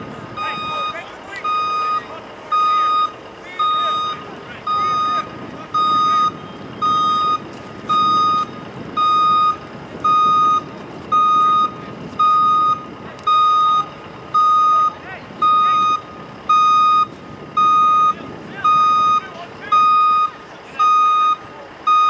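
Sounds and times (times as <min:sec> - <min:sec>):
reversing alarm beeping: 0:00.3 - 0:22.0.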